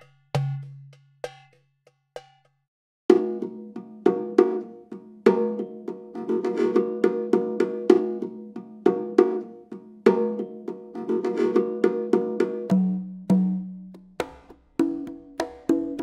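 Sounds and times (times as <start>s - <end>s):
bongos playing: 0.0s - 16.0s.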